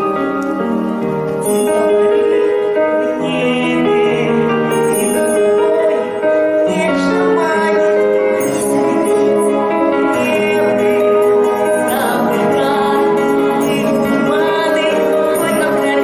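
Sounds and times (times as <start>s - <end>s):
slow ballad music: 0.0s - 16.0s.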